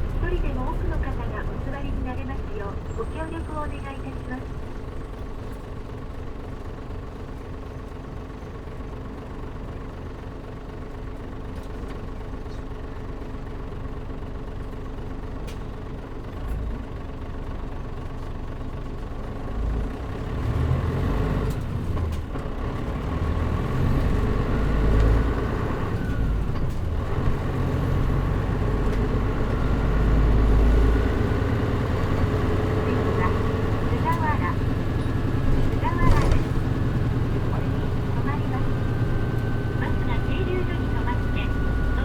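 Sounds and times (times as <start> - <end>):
bus diesel engine from inside: 0.0 - 42.0.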